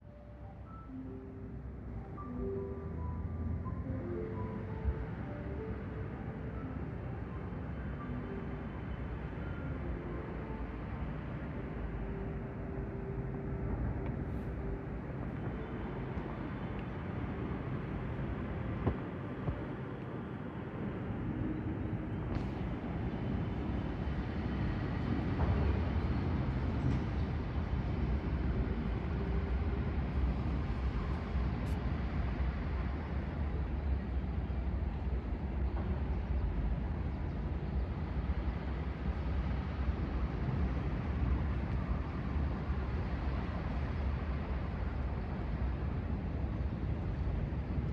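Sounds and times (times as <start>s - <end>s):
outdoor background noise: 0.0s - 47.9s.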